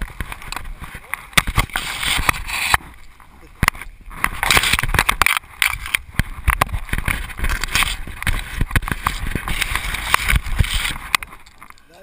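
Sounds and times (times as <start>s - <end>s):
parachute canopy rustling: 0.0s - 12.0s.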